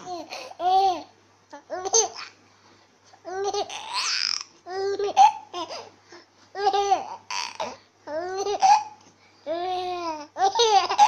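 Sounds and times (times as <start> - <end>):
baby laughing and babbling: 0.0 - 2.4, 3.1 - 5.9, 6.5 - 11.0.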